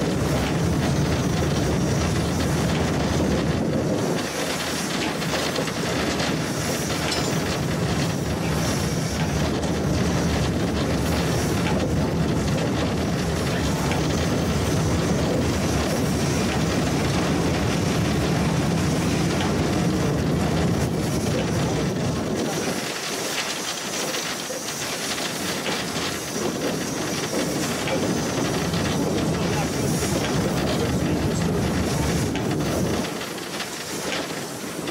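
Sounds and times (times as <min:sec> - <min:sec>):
steam hissing: 0:00.0 - 0:34.9
steam locomotive running gear: 0:00.0 - 0:34.9.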